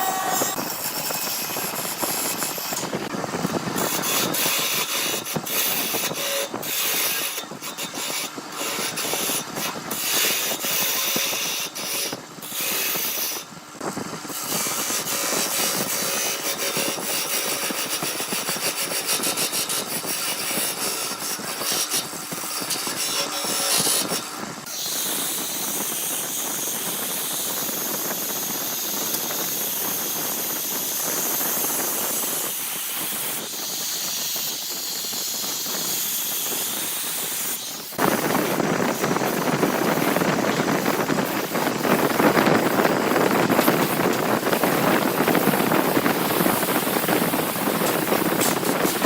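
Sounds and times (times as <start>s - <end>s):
woodworking machine cutting wood: 0.0s - 49.0s.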